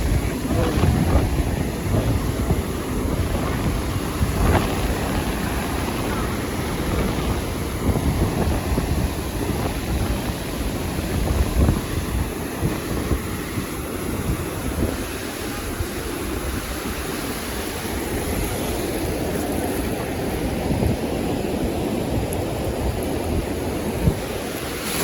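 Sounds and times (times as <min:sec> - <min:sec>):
outdoor noise rushing: 0:00.0 - 0:25.0
wind buffeting microphone: 0:00.0 - 0:25.0.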